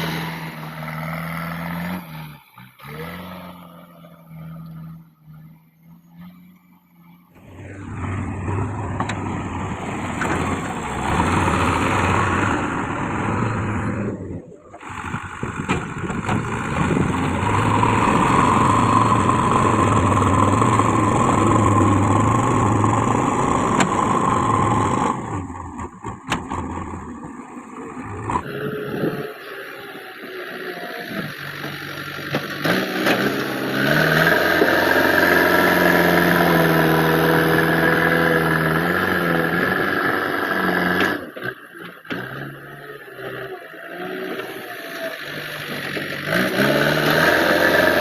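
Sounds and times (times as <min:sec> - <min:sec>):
diesel engine under load: 0:00.0 - 0:48.0.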